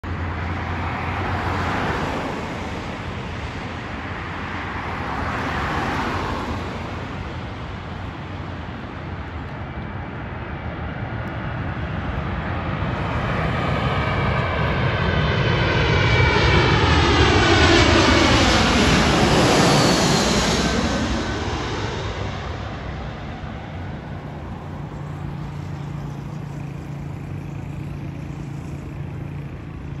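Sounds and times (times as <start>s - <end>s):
jet engines passing overhead: 0.0s - 30.0s.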